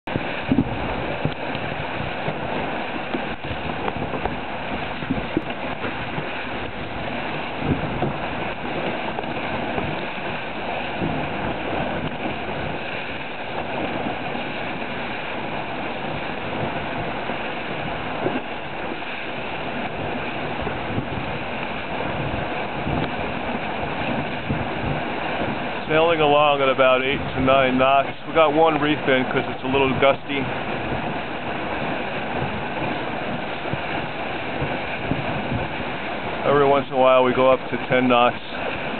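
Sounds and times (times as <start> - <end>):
water rushing along hulls: 0.0 - 38.9
wind buffeting microphone: 0.0 - 38.9.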